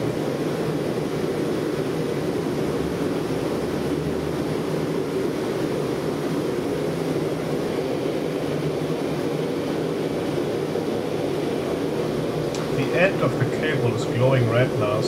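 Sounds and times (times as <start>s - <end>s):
gas forge burner rushing: 0.0s - 15.0s.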